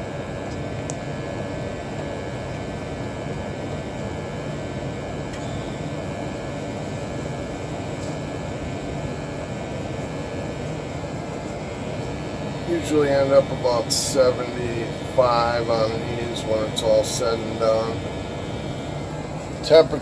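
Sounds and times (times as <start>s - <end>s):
furnace air rush and hum: 0.0s - 20.0s.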